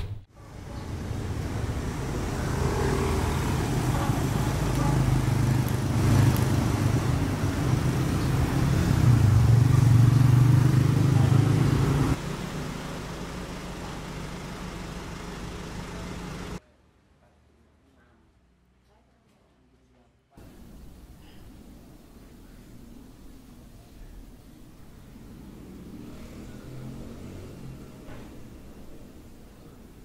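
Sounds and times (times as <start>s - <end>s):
traffic hum: 0.1s - 16.6s, 20.4s - 30.0s
vehicle engine hum: 0.3s - 16.6s, 20.4s - 30.0s.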